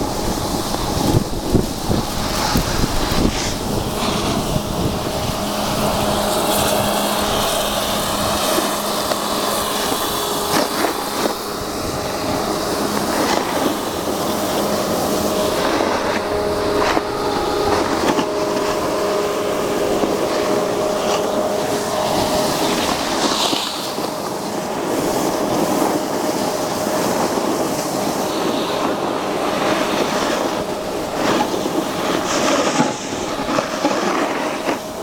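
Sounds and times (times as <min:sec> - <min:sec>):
snowboard scraping over snow: 0:00.0 - 0:35.0
wind buffeting microphone: 0:00.0 - 0:35.0.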